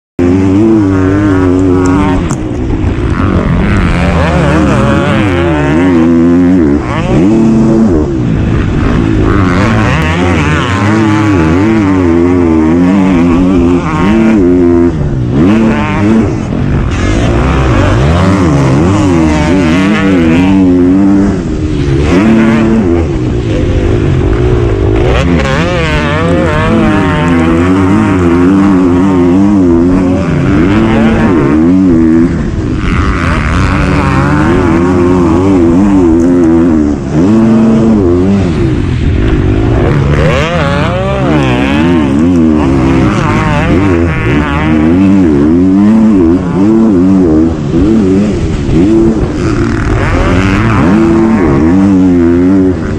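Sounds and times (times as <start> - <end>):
dirt bike engine revving: 0.2 - 52.9.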